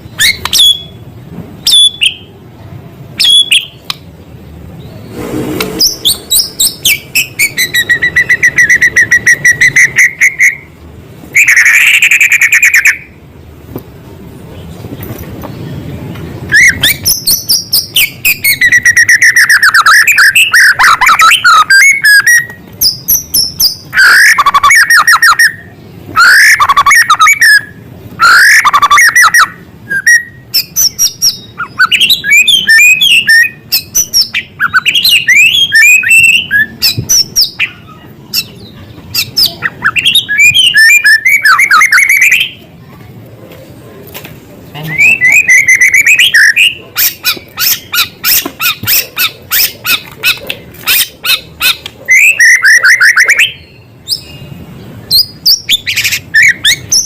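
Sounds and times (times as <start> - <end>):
songbird trills and whistles: 0.1 - 1.0, 1.6 - 2.3, 3.2 - 3.9, 5.8 - 10.7, 11.4 - 13.1, 16.5 - 42.6, 44.8 - 57.0.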